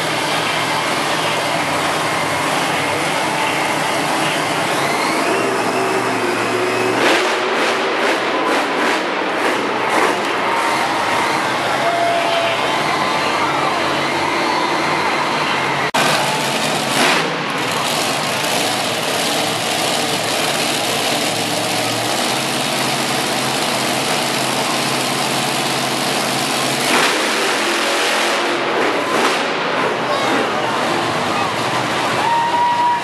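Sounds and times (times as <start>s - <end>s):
loud truck engine running: 0.0s - 33.0s.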